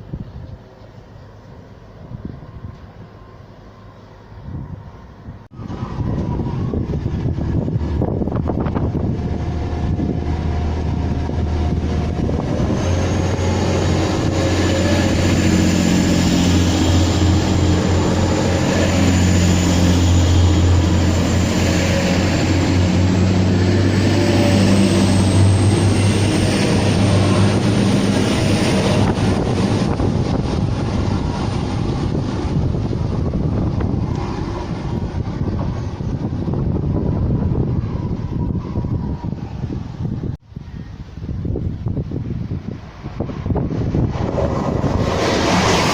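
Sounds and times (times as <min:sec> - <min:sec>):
train running past: 0:00.0 - 0:45.9.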